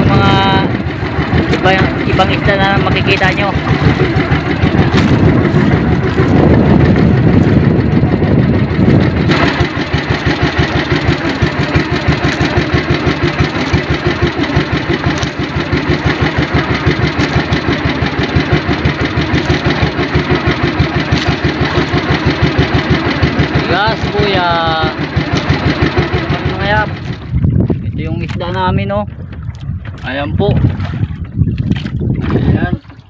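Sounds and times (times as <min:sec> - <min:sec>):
boat engine puttering: 0:00.0 - 0:33.0.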